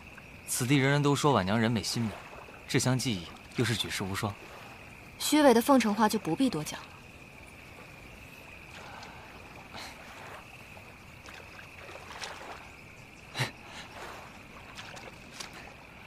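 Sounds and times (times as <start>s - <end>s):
water lapping against boat: 0.0s - 16.0s.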